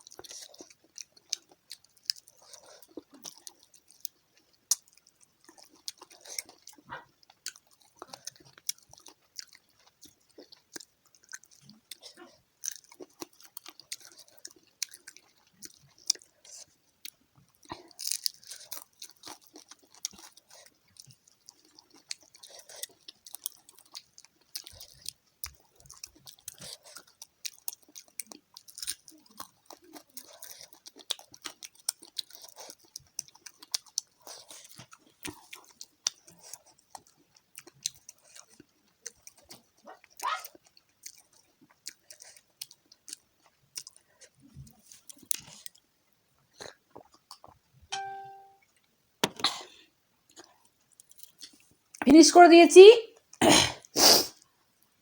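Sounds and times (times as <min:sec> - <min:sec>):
person chewing crunchy food: 0:00.0 - 0:48.6, 0:49.2 - 0:52.0.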